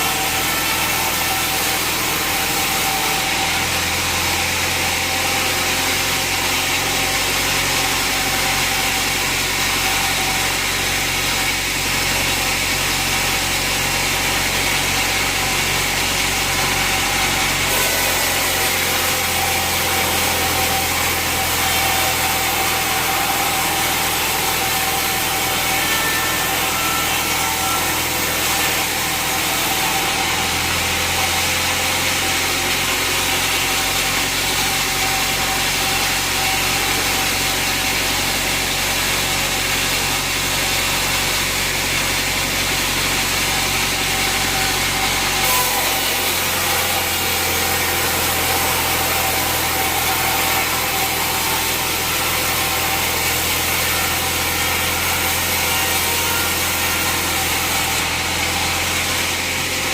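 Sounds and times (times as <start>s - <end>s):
band saw machine drone: 0.0s - 59.9s.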